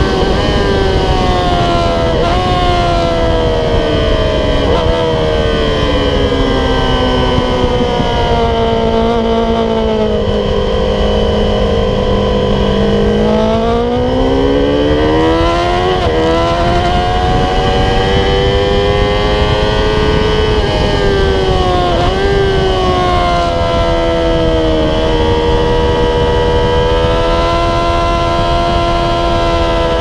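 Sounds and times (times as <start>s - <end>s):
motorcycle engine revving: 0.0s - 30.0s
wind rush: 0.0s - 30.0s.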